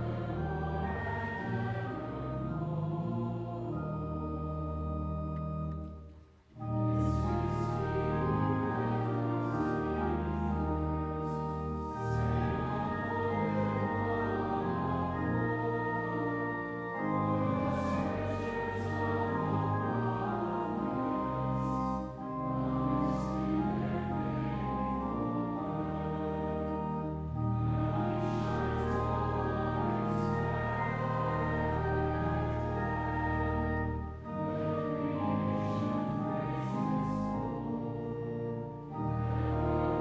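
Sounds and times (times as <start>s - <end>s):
choir singing: 0.0s - 6.0s, 6.6s - 40.0s
organ: 0.0s - 40.0s.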